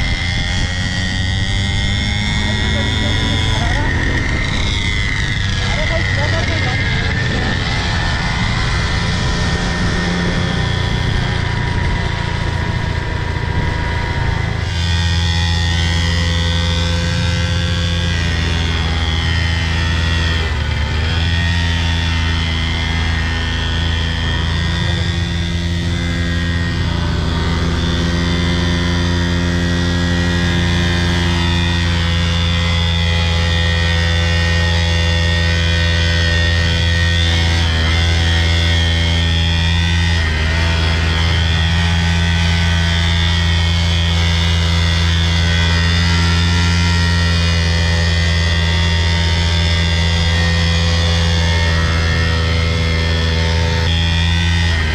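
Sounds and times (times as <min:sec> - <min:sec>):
two-stroke engine running: 0:00.0 - 0:54.9.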